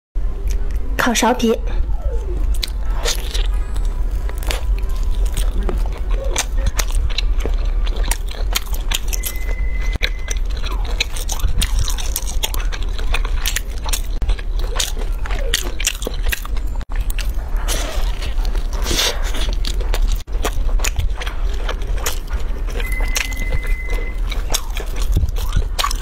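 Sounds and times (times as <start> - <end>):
steady low hum: 0.2 - 26.0
chewing mouth clicks and smacks: 2.4 - 26.0.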